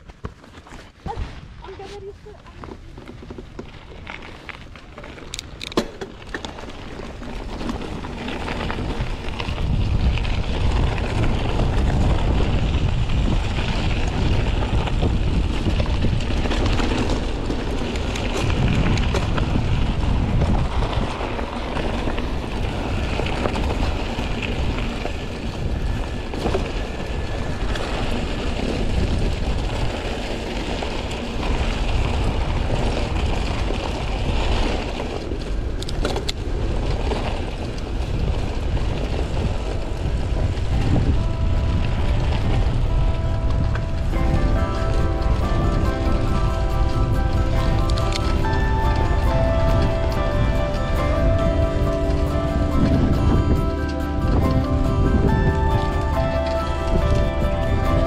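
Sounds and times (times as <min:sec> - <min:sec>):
wind buffeting microphone: 0:00.9 - 0:58.0.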